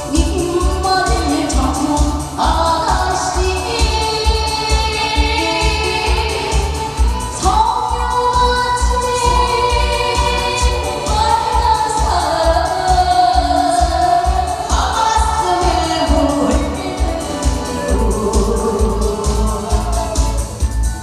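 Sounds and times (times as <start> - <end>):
woman singing through a pa: 0.0 - 20.5
backing track with low beat: 0.0 - 21.0.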